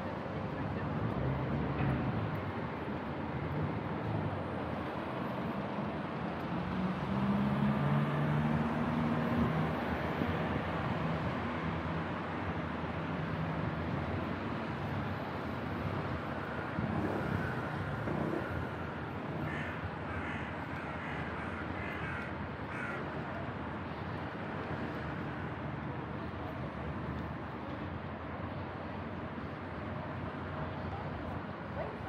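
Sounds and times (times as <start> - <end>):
low traffic hum: 0.0 - 32.0.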